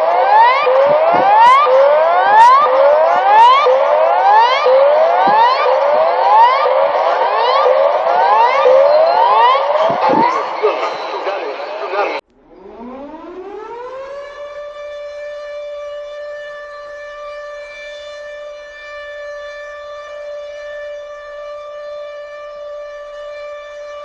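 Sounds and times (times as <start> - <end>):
civil defense siren: 0.0 - 10.6, 12.4 - 24.0.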